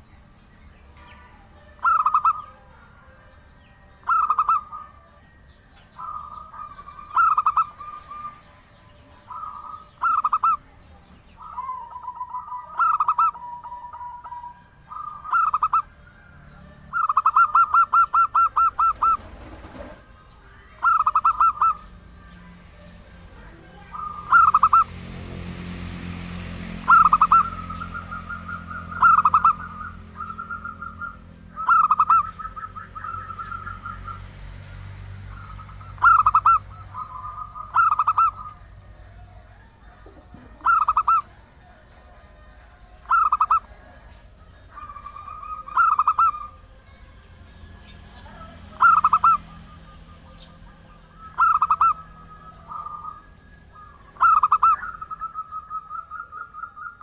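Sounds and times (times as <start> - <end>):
dove cooing: 1.1 - 3.3, 4.0 - 5.2, 6.0 - 8.6, 9.2 - 10.8, 11.4 - 22.5, 23.4 - 24.9, 26.8 - 34.3, 35.3 - 46.9, 48.2 - 57.0.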